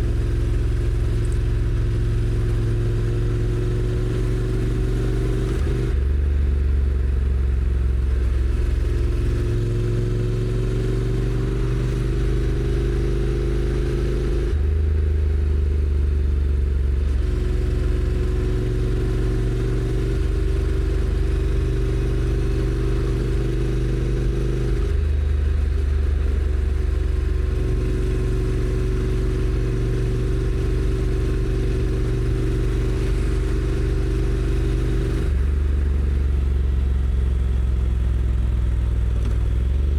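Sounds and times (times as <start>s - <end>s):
motorcycle engine shifting gears: 0.0s - 6.6s, 7.2s - 37.5s.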